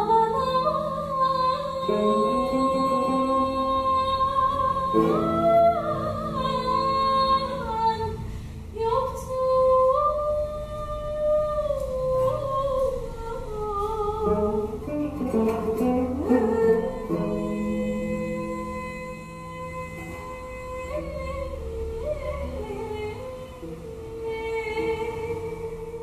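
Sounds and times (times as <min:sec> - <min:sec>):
plucked lute: 0:00.0 - 0:26.0
woman singing: 0:00.0 - 0:26.0.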